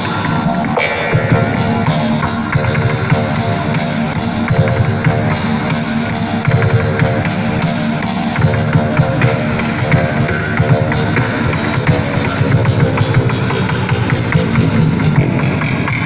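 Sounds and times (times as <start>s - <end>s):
live music with held tones: 0.0s - 16.0s.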